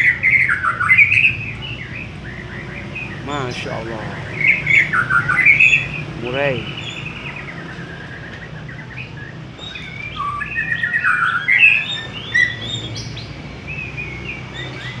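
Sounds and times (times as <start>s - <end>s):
songbird singing whistled notes: 0.0s - 15.0s.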